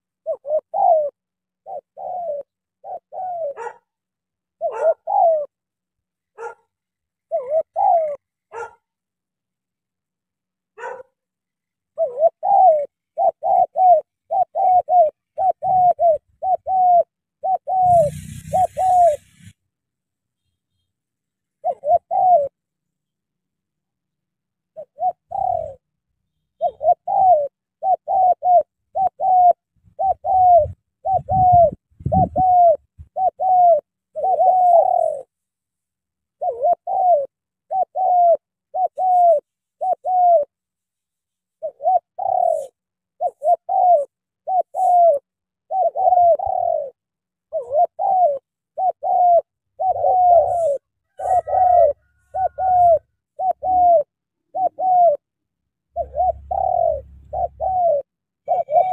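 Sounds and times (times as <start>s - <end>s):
dove cooing: 0.0s - 8.8s, 11.9s - 19.6s, 21.5s - 22.6s, 24.6s - 35.4s, 36.3s - 40.6s, 41.6s - 58.9s.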